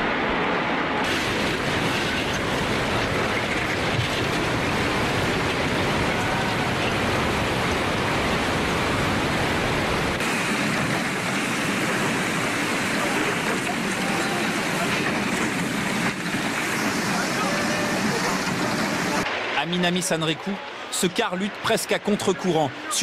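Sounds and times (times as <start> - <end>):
floodwater rushing: 0.2 - 23.0.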